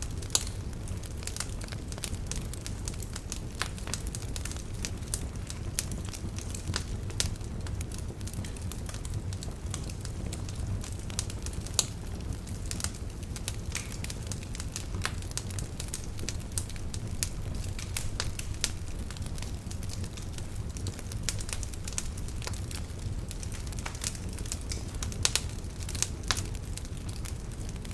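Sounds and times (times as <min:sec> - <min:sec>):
crackles and pops of burning logs: 0:00.0 - 0:27.9
low rumble of flames: 0:00.0 - 0:27.9.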